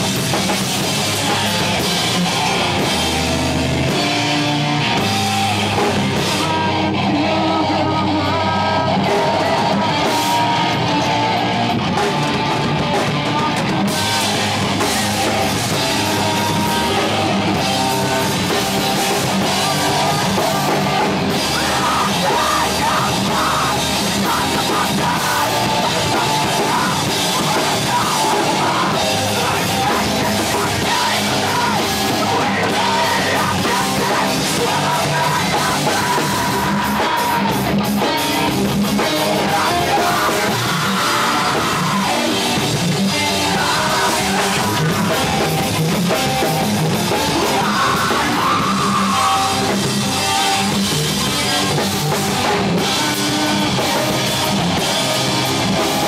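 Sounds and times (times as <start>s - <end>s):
drum kit: 0.0s - 56.0s
electric guitar: 0.0s - 56.0s
person singing: 0.0s - 56.0s.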